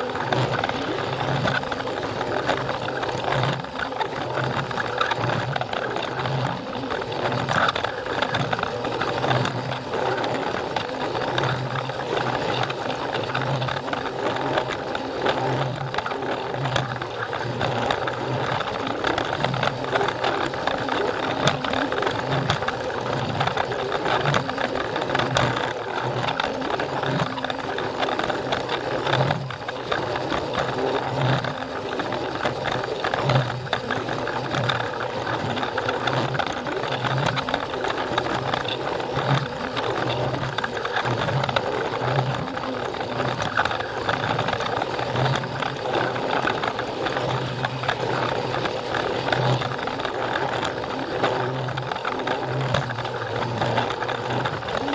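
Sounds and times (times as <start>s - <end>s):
toy train motor whirring: 0.0s - 54.9s
wheels clicking on track joints: 0.0s - 54.9s.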